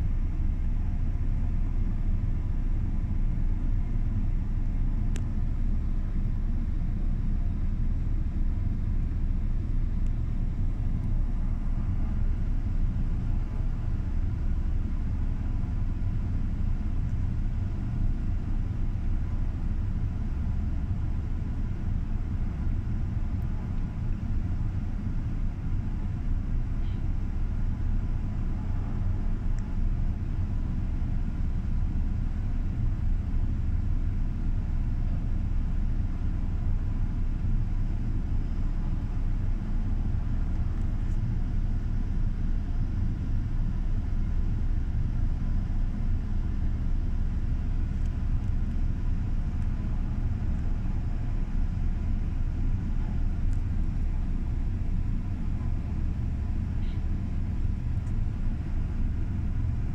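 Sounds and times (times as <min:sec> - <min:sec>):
distant helicopter rotor rumble: 0:00.0 - 0:59.9
faint steady whine: 0:00.0 - 0:59.9.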